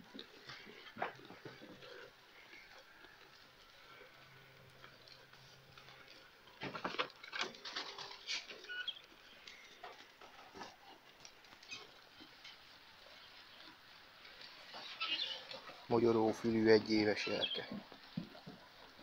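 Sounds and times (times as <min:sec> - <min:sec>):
goats knocking and moving: 0:00.0 - 0:19.0.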